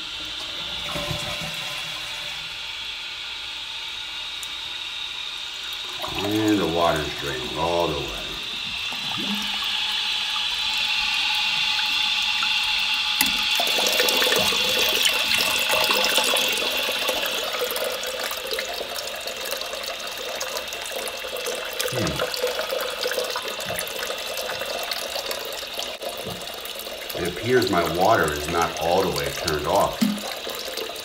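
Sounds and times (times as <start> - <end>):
toilet fill valve hissing: 0.0 - 31.0
water splashing into tank: 5.6 - 31.0.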